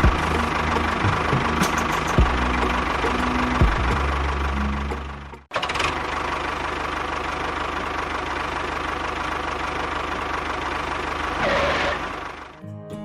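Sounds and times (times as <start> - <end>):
tractor engine knocking: 0.0 - 12.6.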